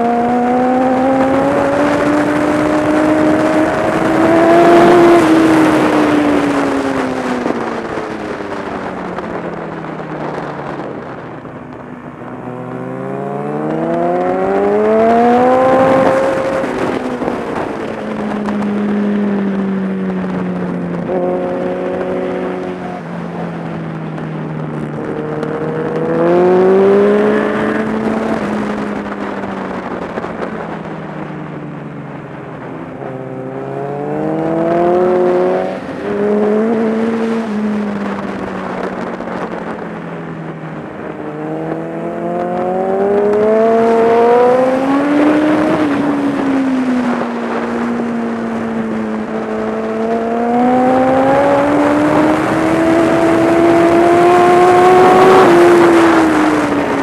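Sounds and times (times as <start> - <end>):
motorcycle engine at speed: 0.0 - 57.0
wind noise: 0.0 - 57.0.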